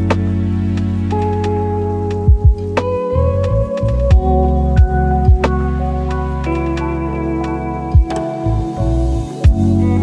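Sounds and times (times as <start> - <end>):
lo-fi hip hop chords and bass: 0.0 - 10.0.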